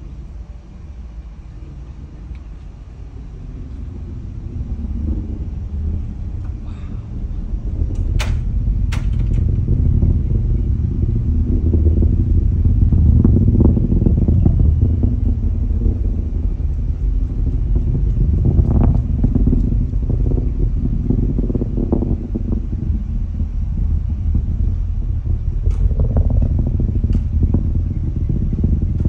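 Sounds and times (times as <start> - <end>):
distant rocket launch rumble: 0.0 - 29.0.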